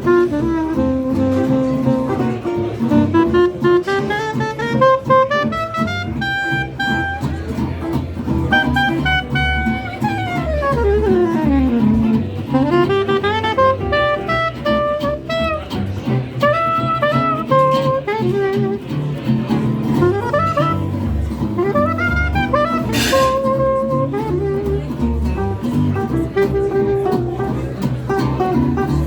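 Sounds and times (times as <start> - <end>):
jazz instrumental music: 0.0 - 29.0.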